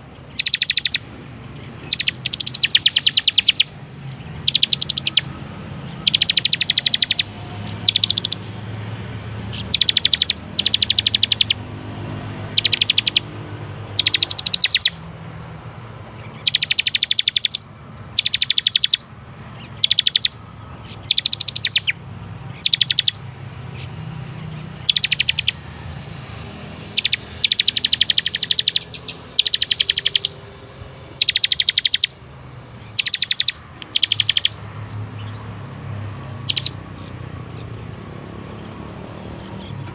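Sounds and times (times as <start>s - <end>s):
bird high-pitched trilling song: 0.0s - 8.6s, 9.4s - 25.8s, 26.8s - 35.7s, 36.3s - 38.2s, 39.0s - 39.9s.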